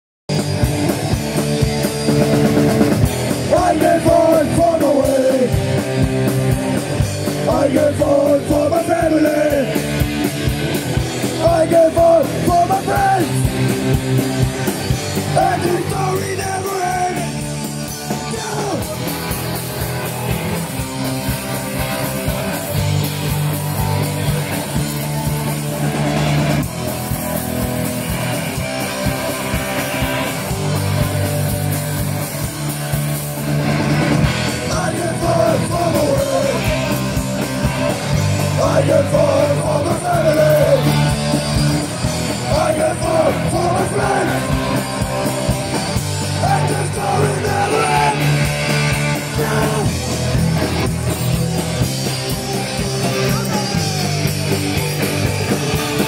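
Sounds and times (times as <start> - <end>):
punk rock band playing: 0.3 - 56.0.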